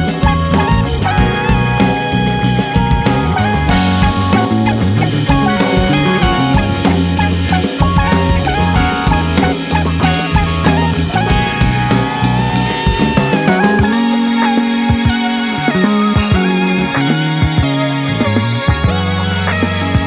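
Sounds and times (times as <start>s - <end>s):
background music with drums: 0.0s - 19.0s.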